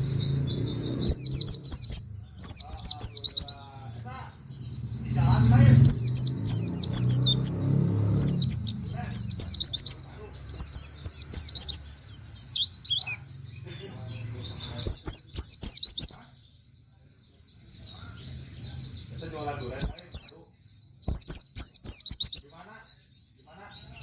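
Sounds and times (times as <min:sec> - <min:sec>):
bird singing whistled notes: 0:00.0 - 0:13.2, 0:14.2 - 0:24.0.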